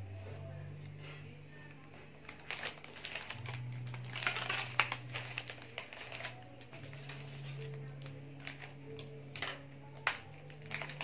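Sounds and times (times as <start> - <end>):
wrapping paper crinkling: 2.2 - 11.0.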